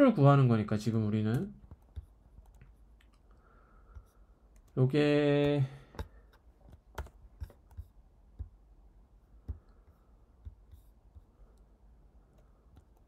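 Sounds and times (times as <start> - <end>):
keyboard and mouse clicks: 1.2 - 8.7, 9.4 - 13.0.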